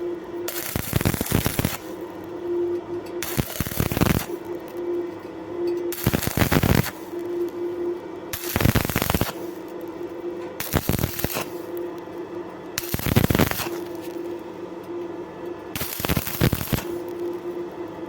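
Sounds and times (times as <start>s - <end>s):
welding arc crackling: 0.4s - 2.4s, 3.0s - 14.4s, 15.7s - 17.5s.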